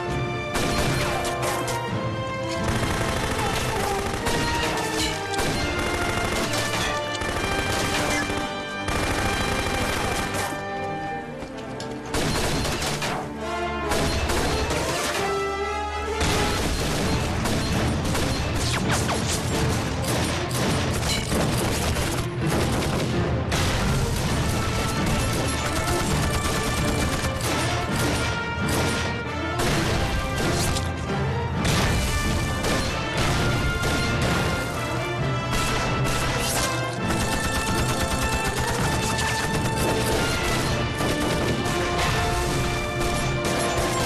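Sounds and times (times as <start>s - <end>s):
dramatic music score: 0.0s - 44.0s
rapid gunfire: 0.5s - 1.4s, 2.6s - 10.6s, 12.1s - 13.3s, 13.9s - 15.2s, 16.2s - 30.8s, 31.6s - 34.8s, 35.5s - 44.0s.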